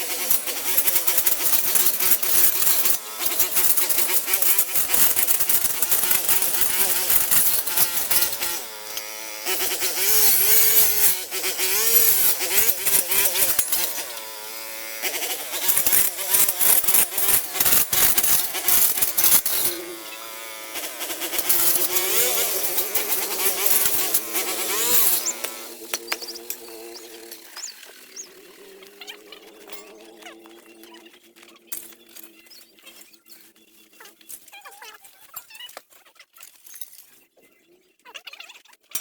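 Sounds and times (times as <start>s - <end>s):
rasping scraping strokes: 0.0s - 33.7s.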